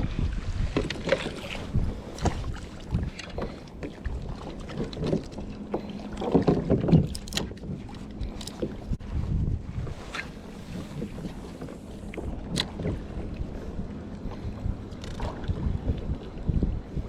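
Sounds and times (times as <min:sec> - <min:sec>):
water lapping against hull: 0:00.0 - 0:17.0
knocks and clicks on boat: 0:00.6 - 0:09.0, 0:09.8 - 0:17.0.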